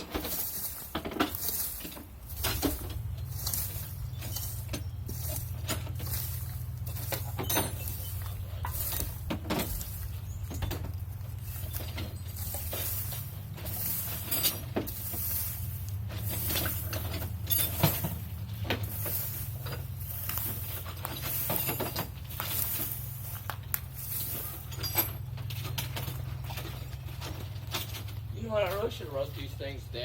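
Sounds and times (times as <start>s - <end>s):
sharp clicks and clinks: 0.1s - 15.3s, 16.3s - 18.4s, 19.6s - 28.9s.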